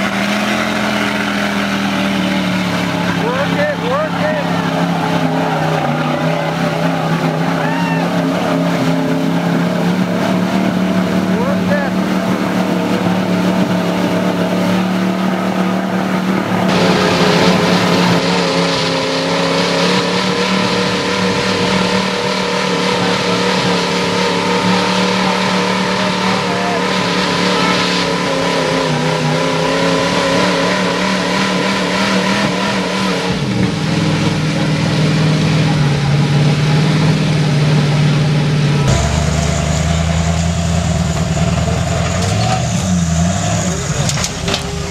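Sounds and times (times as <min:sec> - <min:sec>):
engine running hard under load: 0:00.0 - 0:44.9.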